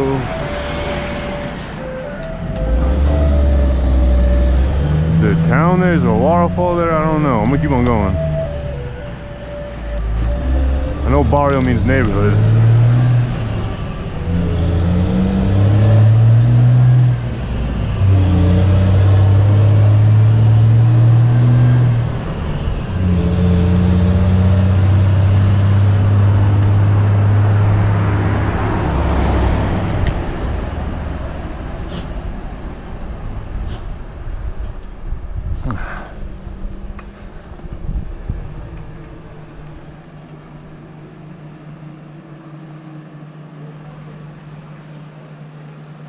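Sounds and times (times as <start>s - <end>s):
vehicle engine shifting gears: 0.0s - 46.0s
wind and road noise: 0.0s - 46.0s.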